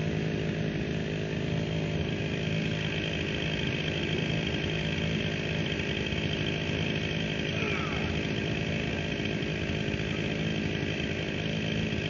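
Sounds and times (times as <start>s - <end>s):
two-stroke chainsaw engine running: 0.0s - 12.0s.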